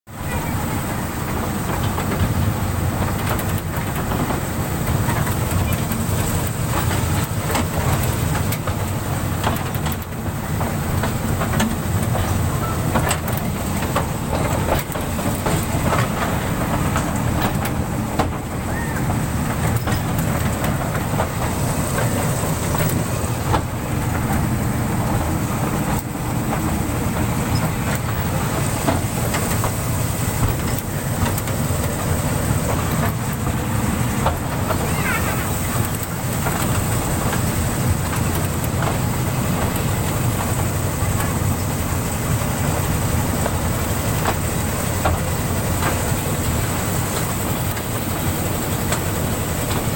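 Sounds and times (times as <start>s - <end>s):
toy train rumbling: 0.1s - 49.9s
wheels and couplings clicking: 0.3s - 49.9s.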